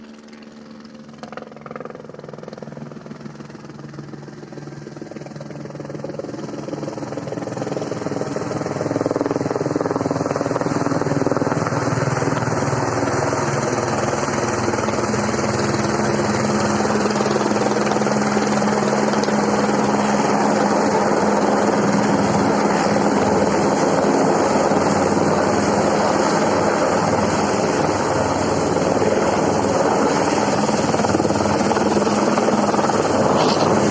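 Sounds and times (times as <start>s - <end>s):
helicopter rotor and engine: 0.0s - 33.9s.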